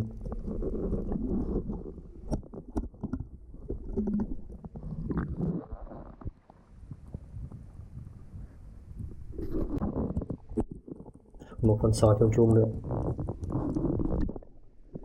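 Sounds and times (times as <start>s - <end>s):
underwater rumbling and gurgling: 0.0s - 15.0s.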